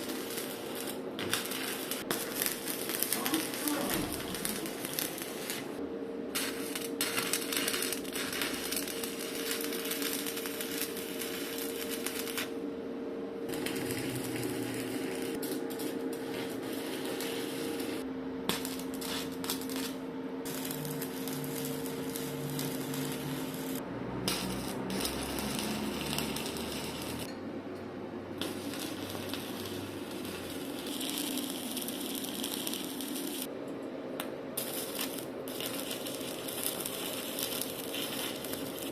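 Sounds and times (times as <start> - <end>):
arc welding crackling: 0.0 - 12.7, 13.4 - 27.3, 28.3 - 33.5, 34.2 - 38.9.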